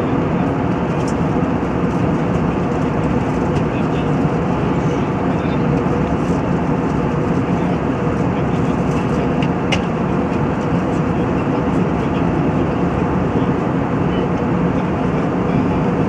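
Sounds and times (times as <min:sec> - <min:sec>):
jet engine and airflow rush: 0:00.0 - 0:16.0.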